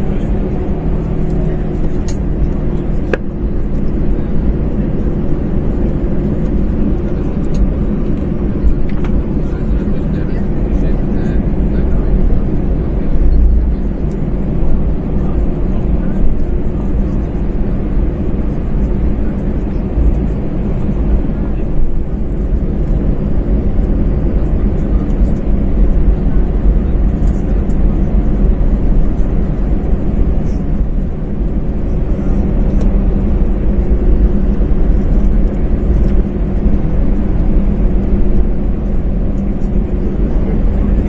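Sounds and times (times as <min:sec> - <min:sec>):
jet engine cabin rumble: 0:00.0 - 0:41.0
steady hum tones: 0:00.0 - 0:41.0.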